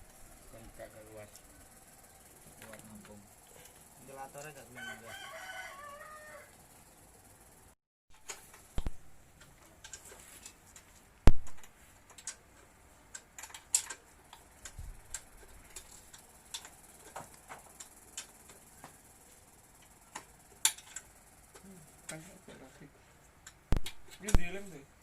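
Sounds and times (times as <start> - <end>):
small parts and tools clicking: 0.0 - 6.7, 8.2 - 24.8.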